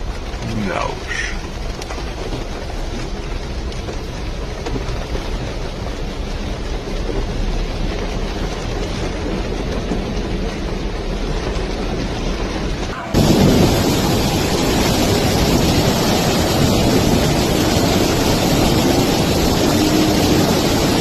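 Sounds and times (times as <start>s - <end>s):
rushing floodwater: 0.0s - 21.0s.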